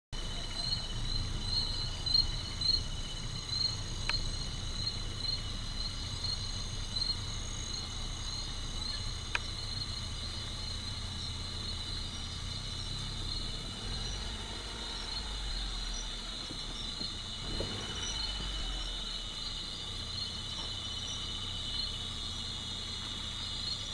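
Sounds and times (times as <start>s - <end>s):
crickets and insects trilling: 0.2s - 23.9s
vehicle engine idling: 0.2s - 23.9s.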